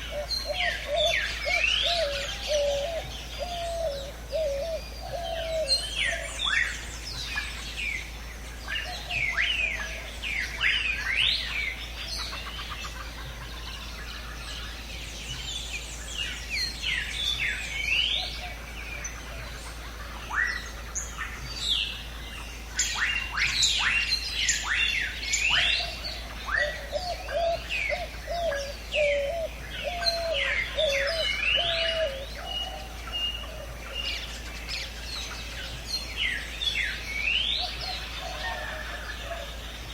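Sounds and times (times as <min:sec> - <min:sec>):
birds chirping in chorus: 0:00.0 - 0:39.9
lower bird call: 0:00.0 - 0:39.9.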